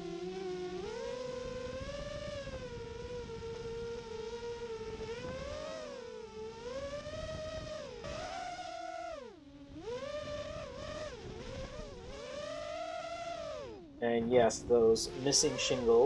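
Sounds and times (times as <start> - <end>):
quadcopter motors buzzing whine: 0.0 - 16.0.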